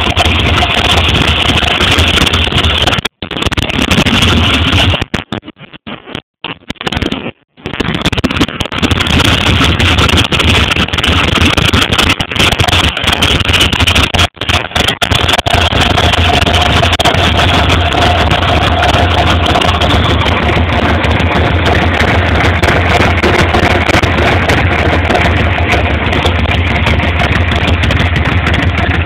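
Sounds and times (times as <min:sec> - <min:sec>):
motorcycle engine running: 0:00.0 - 0:05.1, 0:07.9 - 0:29.0.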